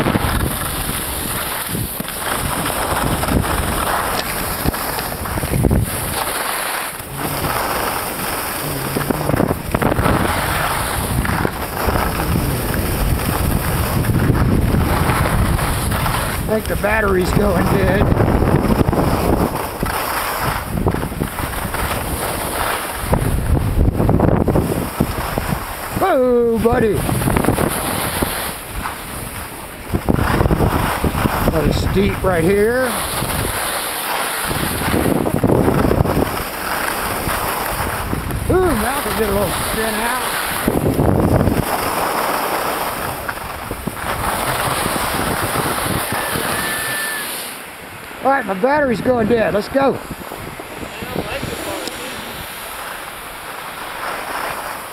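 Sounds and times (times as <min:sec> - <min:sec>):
skis scraping over snow: 0:00.0 - 0:54.9
wind buffeting microphone: 0:00.0 - 0:54.9.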